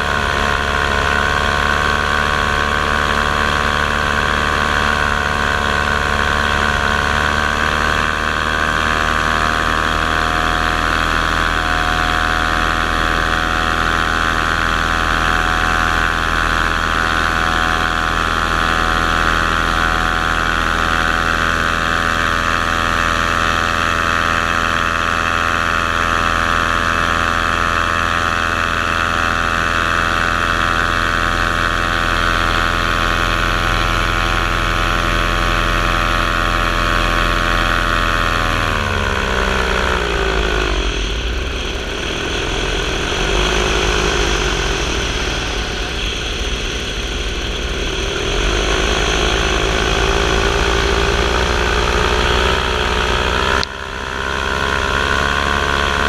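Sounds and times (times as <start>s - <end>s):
aircraft motors humming: 0.0s - 56.0s.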